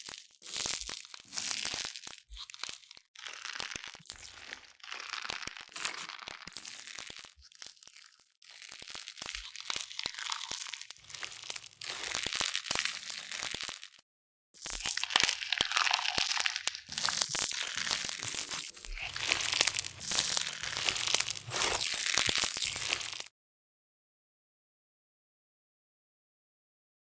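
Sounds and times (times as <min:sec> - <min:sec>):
close-up crunching and crinkling: 0:00.0 - 0:14.0, 0:14.6 - 0:23.3.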